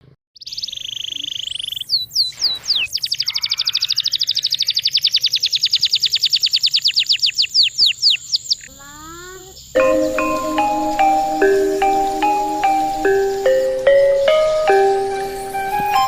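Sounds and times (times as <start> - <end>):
songbird singing: 0.4 - 16.0.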